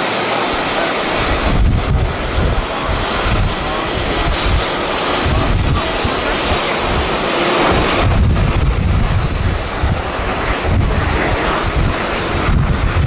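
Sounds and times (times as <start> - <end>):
jet engines rushing: 0.0 - 13.0
wind buffeting microphone: 0.5 - 13.0.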